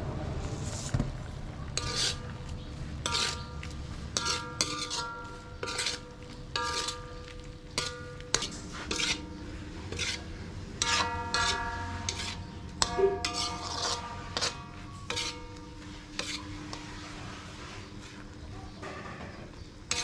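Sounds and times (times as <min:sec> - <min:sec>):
metal spoon scraping a wok: 0:01.8 - 0:18.3, 0:19.8 - 0:20.0.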